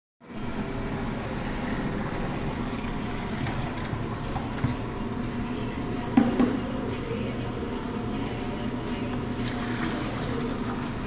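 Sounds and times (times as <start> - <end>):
floor mixer motor humming: 0.3 - 11.0.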